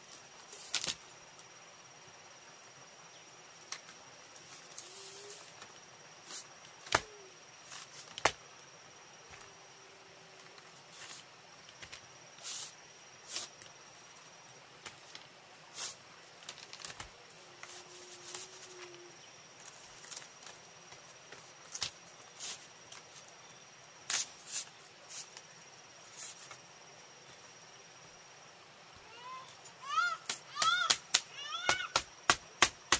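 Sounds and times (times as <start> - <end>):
high-pitched insect trill: 0.0 - 32.9.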